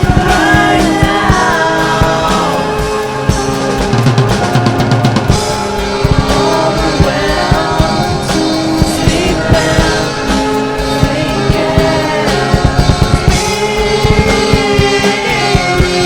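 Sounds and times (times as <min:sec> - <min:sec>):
person singing: 0:00.0 - 0:04.8, 0:05.4 - 0:16.0
drum kit playing busy beat: 0:00.0 - 0:16.0
guitar: 0:00.0 - 0:16.0.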